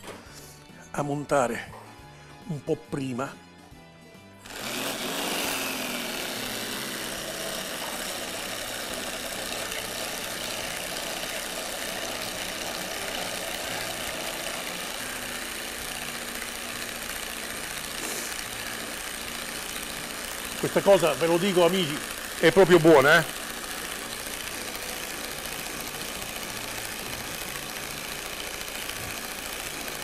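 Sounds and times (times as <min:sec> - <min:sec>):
electric hand blender whisking: 0:04.4 - 0:30.0.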